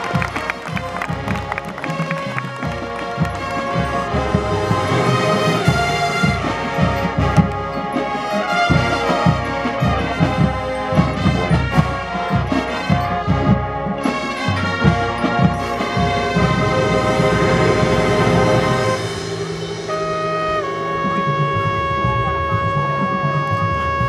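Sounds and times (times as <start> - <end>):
brass playing melody: 0.0 - 24.0
marching percussion hits: 0.0 - 24.0.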